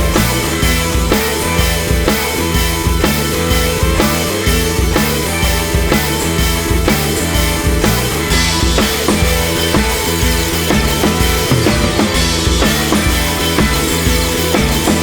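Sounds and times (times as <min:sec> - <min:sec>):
rock music with drum beat: 0:00.0 - 0:15.0.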